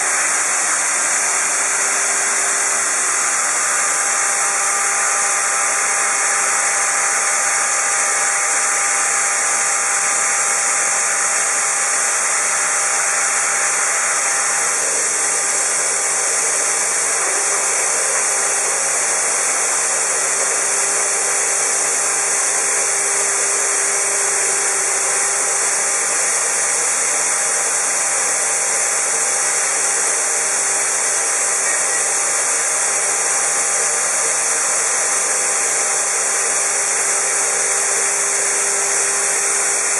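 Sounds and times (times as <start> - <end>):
router cutting plastic hiss: 0.0 - 39.9.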